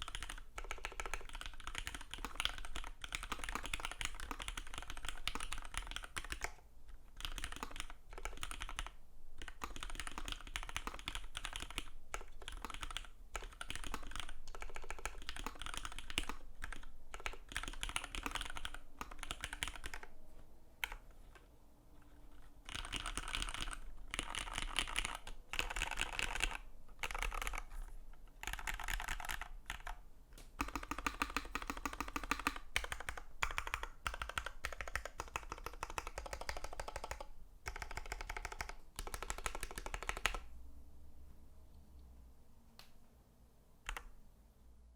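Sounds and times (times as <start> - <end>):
fast mechanical keyboard typing: 0.0 - 20.1, 20.8 - 21.0, 22.3 - 30.0, 30.6 - 40.5.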